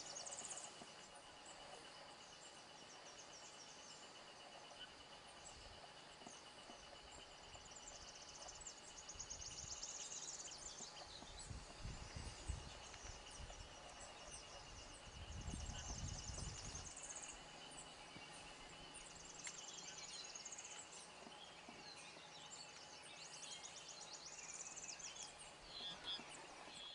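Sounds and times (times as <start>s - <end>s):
insects trilling and buzzing: 0.0s - 26.9s.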